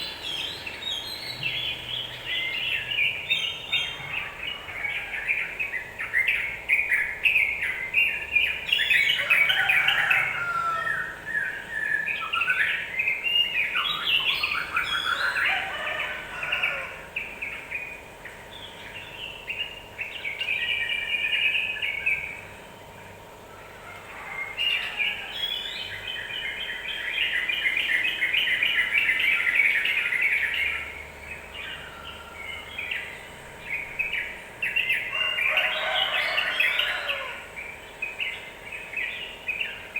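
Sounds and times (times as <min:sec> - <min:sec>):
birds singing rapid chattering notes: 0:00.0 - 0:39.9.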